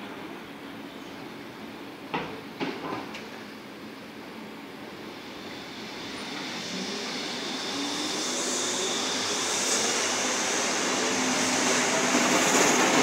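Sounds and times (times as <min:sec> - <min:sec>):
subway train running past: 0:00.0 - 0:13.0.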